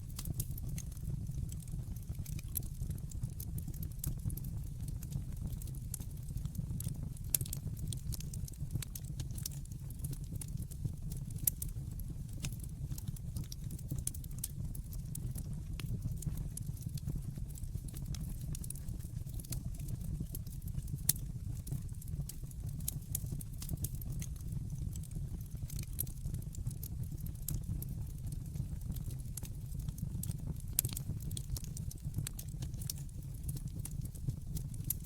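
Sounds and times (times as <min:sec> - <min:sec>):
low fire rumble: 0:00.0 - 0:35.0
wood fire crackling and popping: 0:00.0 - 0:35.0.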